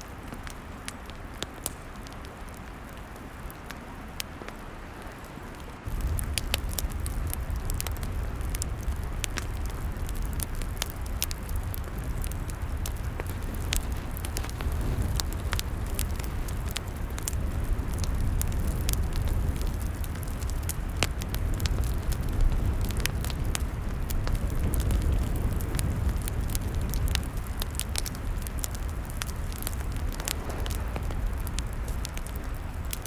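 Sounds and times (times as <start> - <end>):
fire low rumble: 0.0 - 33.0
log fire crackling and popping: 0.0 - 33.0.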